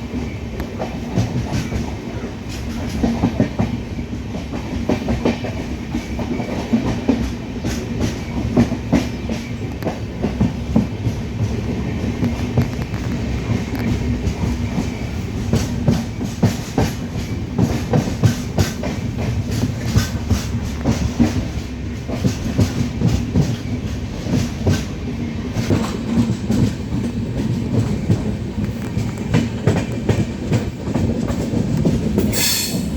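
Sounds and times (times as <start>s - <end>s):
train rumble: 0.0s - 32.9s.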